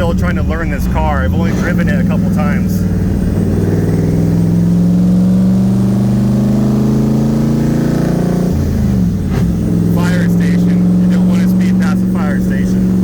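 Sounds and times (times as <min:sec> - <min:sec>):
car engine pulling in gear: 0:00.0 - 0:13.0.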